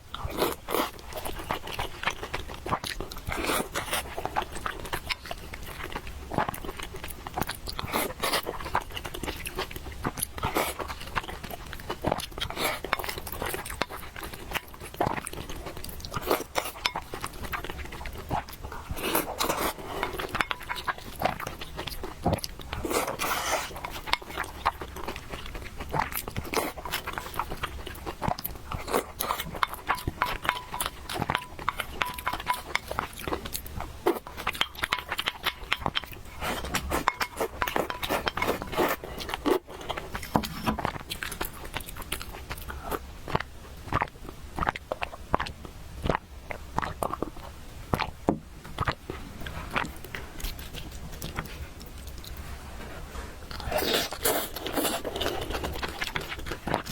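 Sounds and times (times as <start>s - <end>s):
chewing and slurping noodles: 0.0s - 56.9s.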